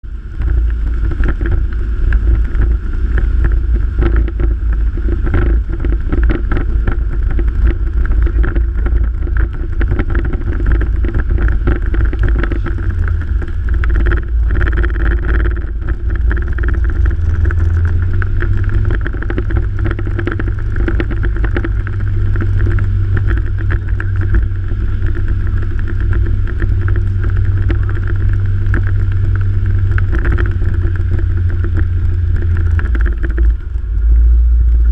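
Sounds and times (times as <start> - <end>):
motor running: 0.0 - 34.9
wind buffeting microphone: 0.0 - 34.9.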